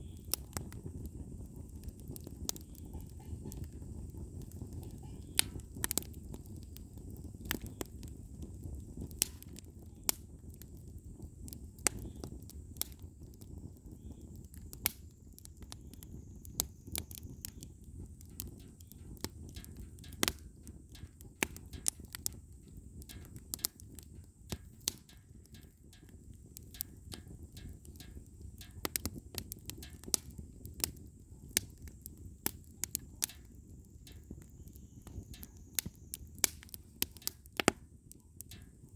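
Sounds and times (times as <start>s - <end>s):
firewood crackling and popping: 0.0s - 38.9s
low steady fire rumble: 0.0s - 38.9s.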